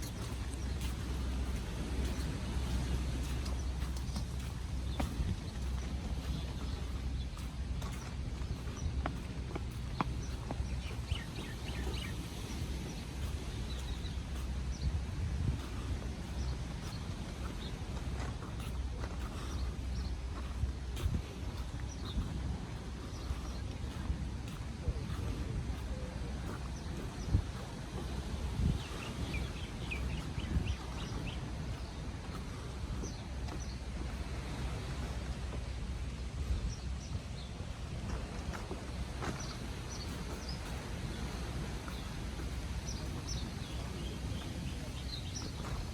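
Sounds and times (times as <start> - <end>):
birds chirping: 0.0 - 45.9
outdoor noise: 0.0 - 45.9
steady low rumble: 0.0 - 45.9.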